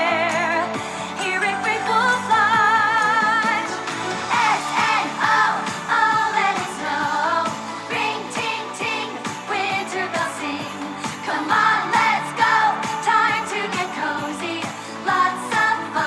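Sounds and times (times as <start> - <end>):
pop song with singing: 0.0 - 16.0.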